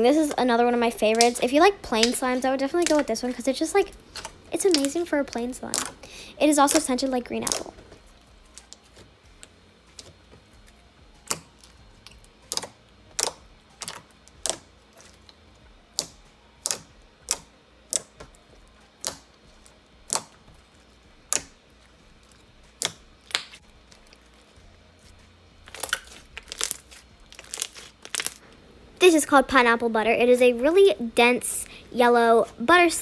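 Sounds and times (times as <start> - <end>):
slime clicking and popping: 1.0 - 24.4, 25.1 - 28.4.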